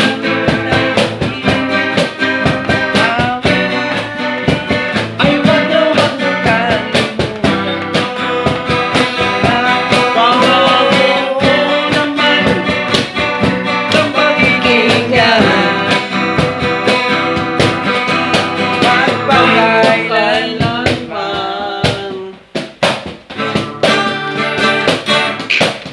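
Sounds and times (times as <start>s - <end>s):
man singing: 0.0s - 17.4s, 18.4s - 22.5s
acoustic guitar strumming: 0.0s - 25.9s.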